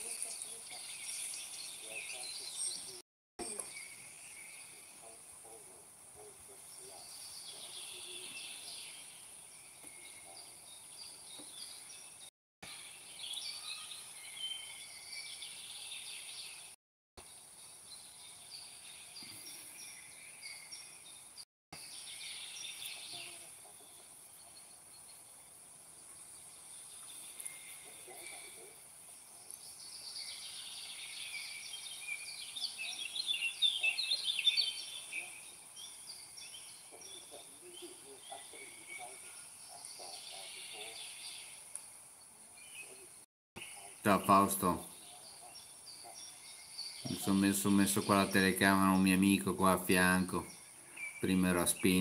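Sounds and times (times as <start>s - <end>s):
outdoor ambient hiss: 0.0s - 52.0s
small birds chirping: 0.0s - 52.0s.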